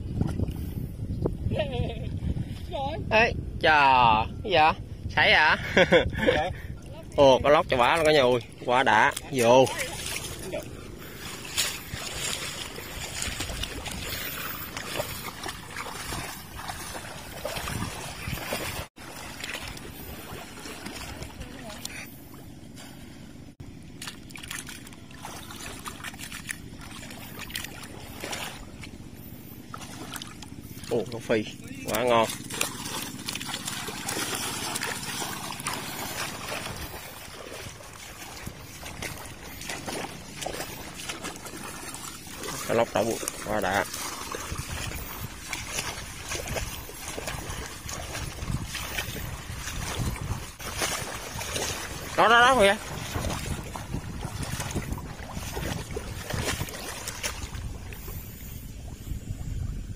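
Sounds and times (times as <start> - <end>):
low motor hum: 0.0 - 59.9
water sloshing and trickling: 0.0 - 59.9
small splashes: 6.6 - 59.1.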